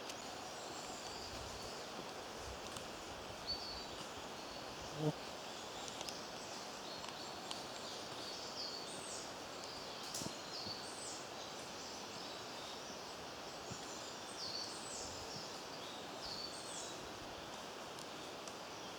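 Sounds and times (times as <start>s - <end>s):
outdoor background noise: 0.0s - 18.9s.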